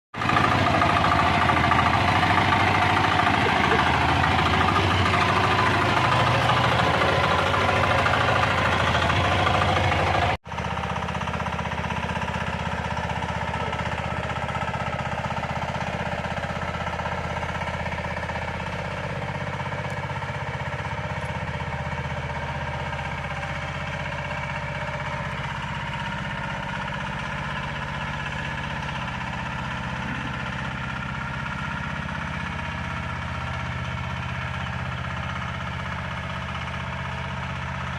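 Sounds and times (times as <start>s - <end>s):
tractor engine running: 0.2s - 37.9s.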